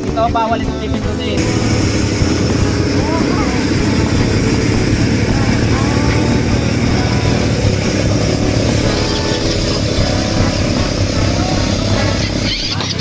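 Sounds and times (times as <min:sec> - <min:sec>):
atv engines idling: 0:00.0 - 0:13.0.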